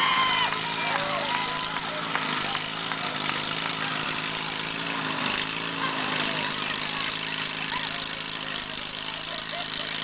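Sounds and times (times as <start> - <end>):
lawn mower engines running: 0.0 - 10.0.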